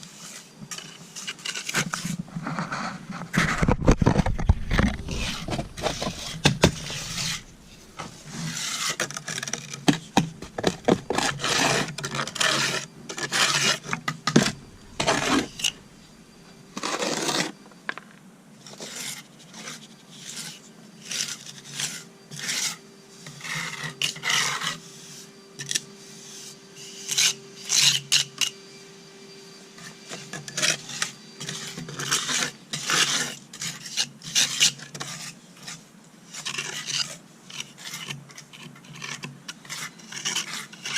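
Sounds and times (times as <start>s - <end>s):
hand tool scraping concrete: 0.0s - 16.1s, 16.8s - 17.6s, 18.7s - 28.5s, 29.8s - 40.9s.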